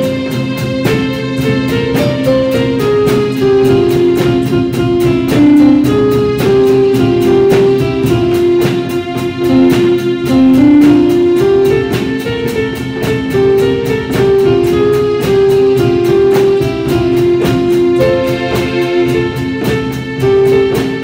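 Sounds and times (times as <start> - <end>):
band playing instrumental: 0.0 - 21.0
drum kit beat: 0.0 - 21.0
hand drums: 0.0 - 21.0.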